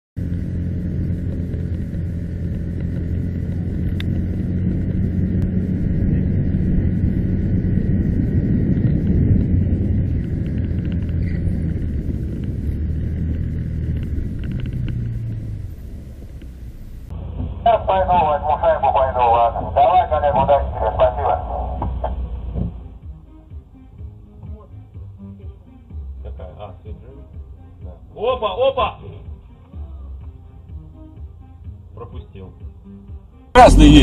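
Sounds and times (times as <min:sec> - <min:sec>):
vehicle engine hum: 0:00.2 - 0:32.0, 0:32.6 - 0:34.0
road and wind noise: 0:00.2 - 0:34.0.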